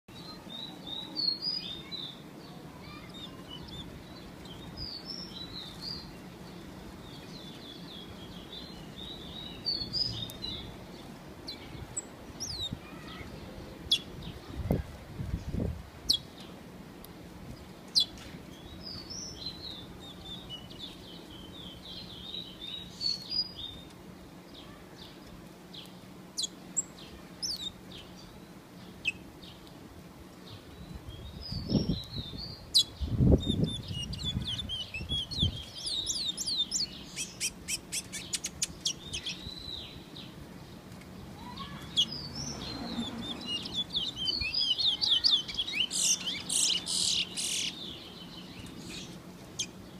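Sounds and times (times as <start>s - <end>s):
songbirds chirping and trilling: 0.1s - 49.9s.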